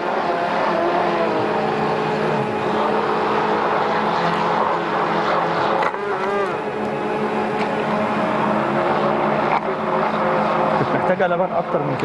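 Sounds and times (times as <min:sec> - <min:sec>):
immersion blender running: 0:00.0 - 0:11.2
electric mixer beating batter: 0:00.0 - 0:12.0.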